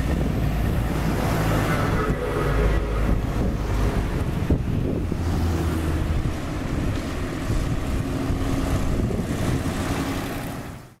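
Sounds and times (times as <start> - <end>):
wind on microphone: 0.0 - 10.9
diesel truck engine rumbling: 0.0 - 11.0.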